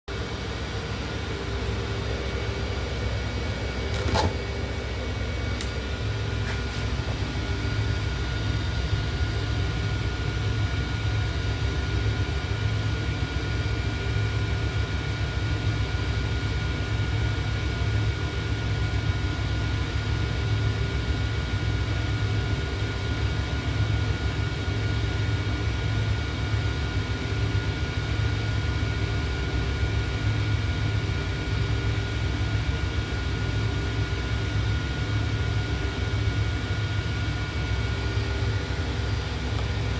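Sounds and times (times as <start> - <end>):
faint steady whine: 0.1 - 39.9
incubator humming: 0.1 - 39.9.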